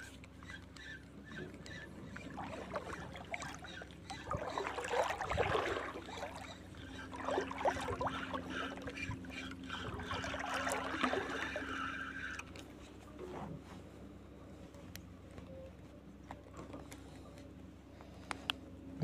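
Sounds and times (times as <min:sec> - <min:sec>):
water sloshing and lapping: 0:00.0 - 0:18.6
faint steady hum: 0:00.0 - 0:19.0.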